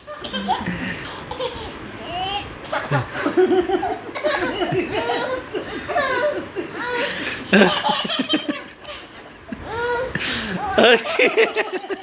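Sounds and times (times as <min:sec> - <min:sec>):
baby laughing: 0:00.0 - 0:01.8, 0:02.6 - 0:12.0.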